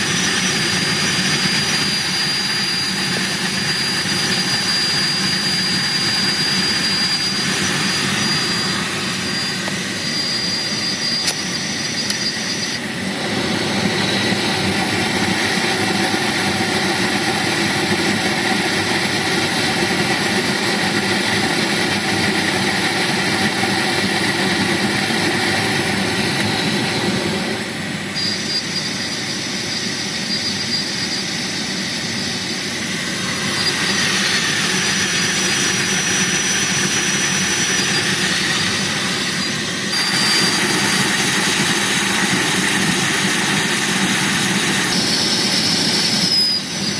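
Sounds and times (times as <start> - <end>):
thin high whistle: 0.0 - 13.1, 20.0 - 46.9
heater blower fan rushing air: 0.0 - 46.9.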